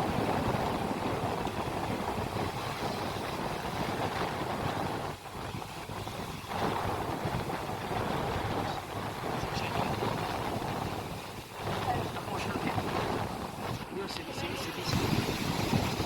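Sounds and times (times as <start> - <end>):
rushing water: 0.0 - 16.0
wind buffeting microphone: 0.0 - 16.0.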